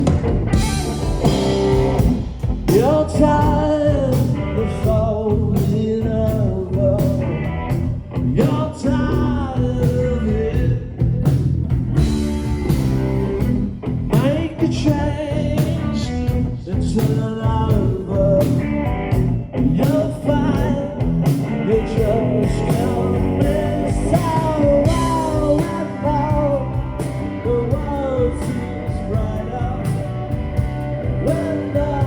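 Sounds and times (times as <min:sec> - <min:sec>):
electric guitar lead: 0:00.0 - 0:16.6, 0:17.8 - 0:32.0
bass guitar: 0:00.0 - 0:32.0
drum kit: 0:00.0 - 0:32.0.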